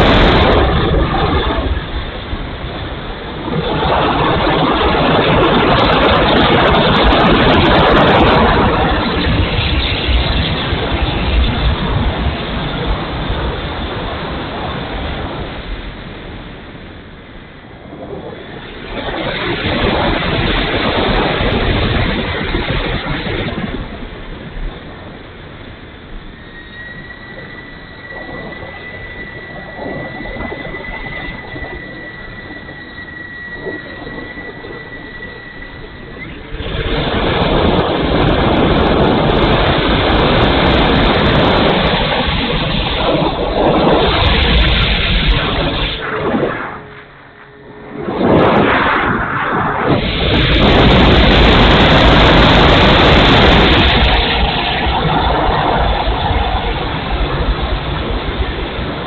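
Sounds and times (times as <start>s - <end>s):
model plane propeller: 0.0s - 59.0s
thin steady whine: 0.0s - 59.0s
wind rush: 0.0s - 59.0s.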